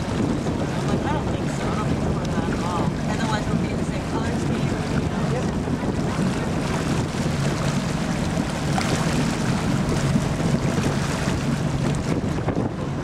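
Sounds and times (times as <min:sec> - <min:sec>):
boat engine hum: 0:00.0 - 0:13.0
water rushing past hull: 0:00.0 - 0:13.0
wind buffeting microphone: 0:00.0 - 0:13.0.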